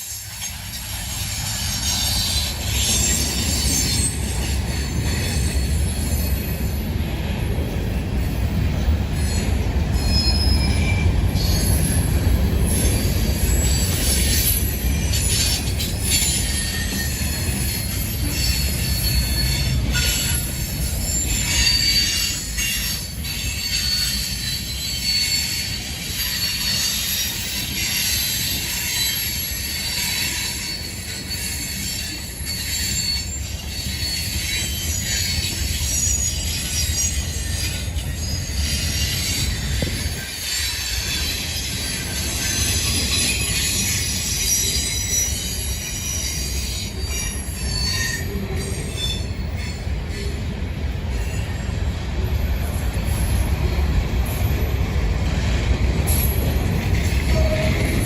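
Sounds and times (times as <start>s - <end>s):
freight train rumble: 0.0s - 58.0s
train wheels squealing on rails: 0.0s - 58.0s.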